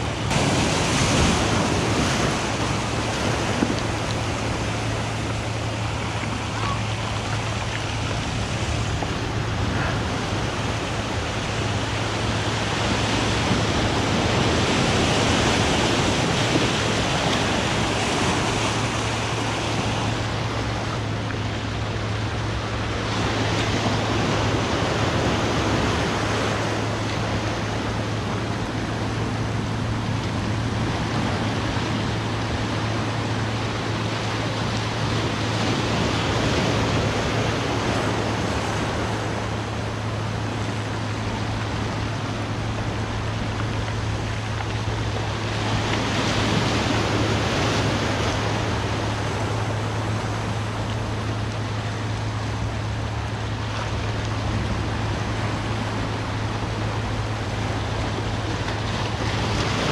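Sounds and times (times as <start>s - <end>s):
ocean surf washing on shore: 0.0s - 59.9s.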